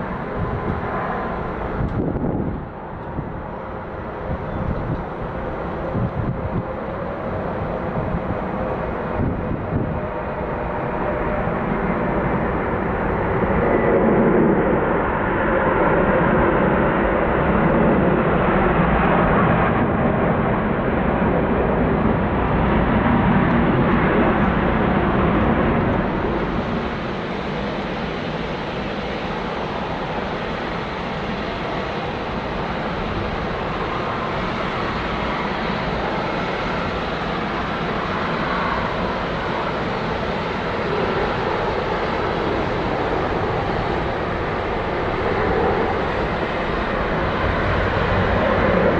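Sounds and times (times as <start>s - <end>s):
airliner jet engines rushing: 0.0s - 48.9s.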